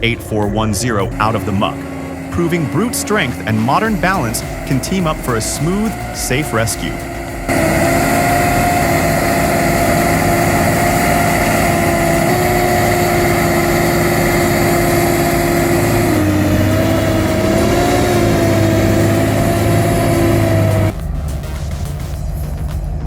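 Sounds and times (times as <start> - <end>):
heavy machine engine droning: 0.0 - 23.0.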